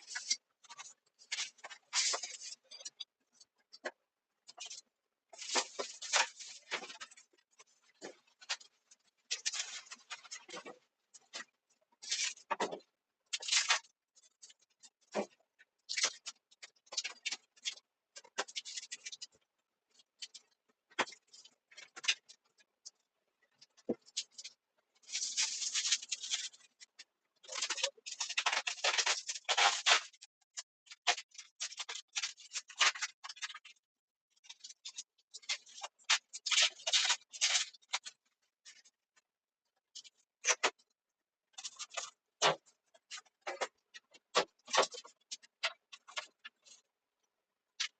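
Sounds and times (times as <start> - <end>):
scraping and clicking handling noises: 0.0 - 30.3, 34.4 - 39.0, 41.5 - 47.9.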